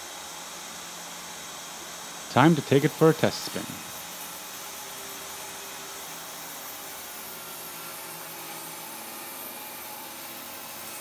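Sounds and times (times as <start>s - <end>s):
table saw running: 0.0s - 11.0s.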